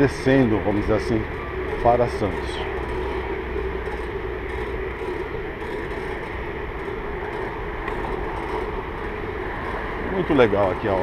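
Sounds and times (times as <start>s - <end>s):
bicycle rolling on pavement: 0.0s - 11.0s
constant low hum: 0.0s - 11.0s.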